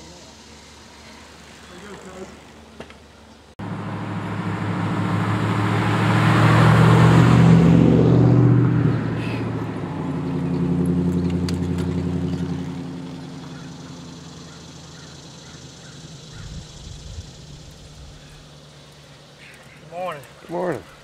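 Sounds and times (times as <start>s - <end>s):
motor vehicle engine: 0.0s - 21.0s.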